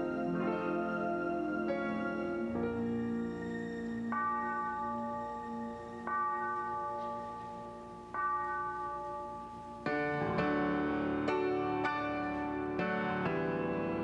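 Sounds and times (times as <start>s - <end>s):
slow solo piano chords: 0.0s - 14.0s.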